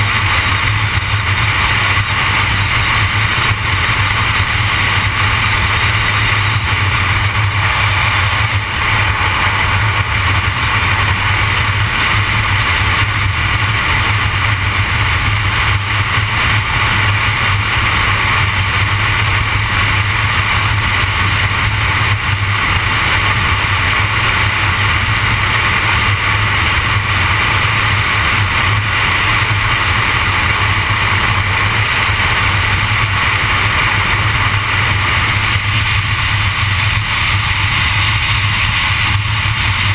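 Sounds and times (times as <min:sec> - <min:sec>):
vehicle cruising road noise: 0:00.0 - 0:39.9.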